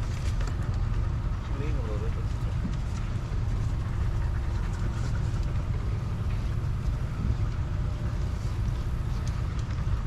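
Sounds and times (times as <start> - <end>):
outboard motor low rumble: 0.0 - 10.0.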